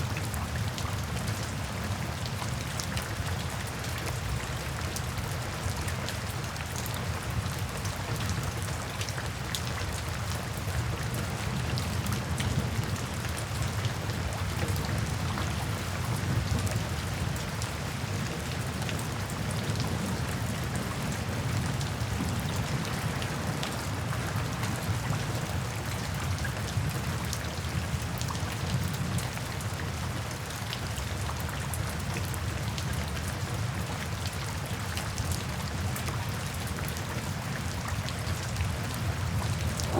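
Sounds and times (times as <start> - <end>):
rain falling into puddles: 0.0 - 39.9.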